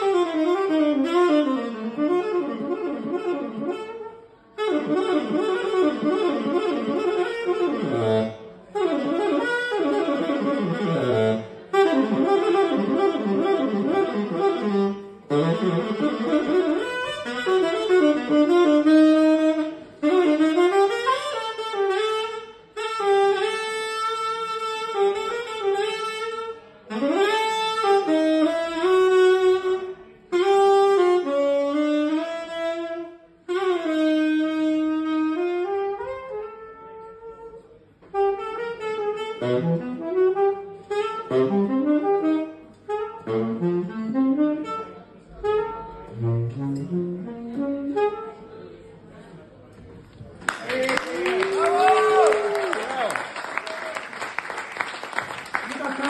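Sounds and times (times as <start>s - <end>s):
tenor saxophone playing jazz: 0.0s - 56.0s.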